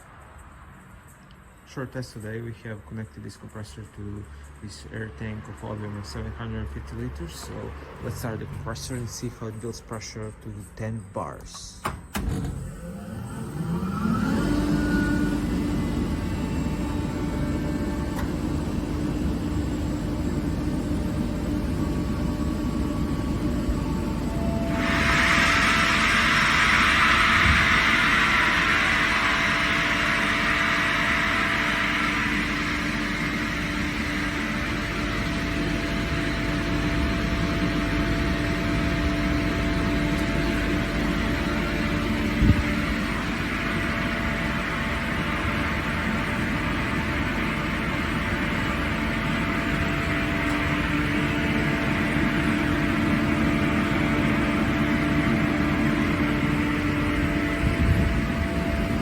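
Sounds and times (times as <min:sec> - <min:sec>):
air compressor running: 0:04.2 - 0:09.6, 0:12.1 - 0:59.0.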